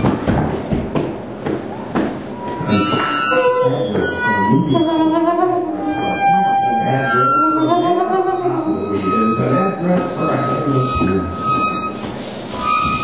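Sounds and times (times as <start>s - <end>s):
saxophone improvising: 2.4s - 13.0s.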